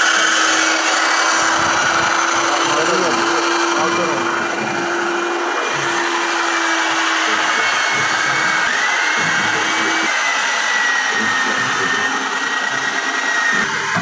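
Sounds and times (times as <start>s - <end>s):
wood lathe motor running: 0.0s - 14.0s.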